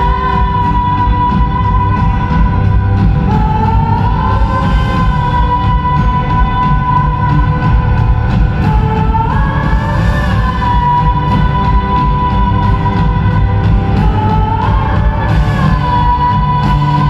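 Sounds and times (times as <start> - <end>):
bass: 0.0 - 17.0
drums: 0.0 - 17.0.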